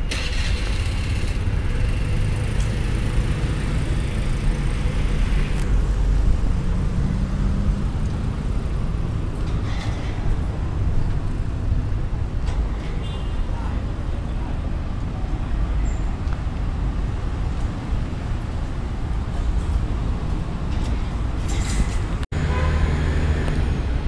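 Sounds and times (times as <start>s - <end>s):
car engines and traffic rumbling: 0.0s - 24.0s.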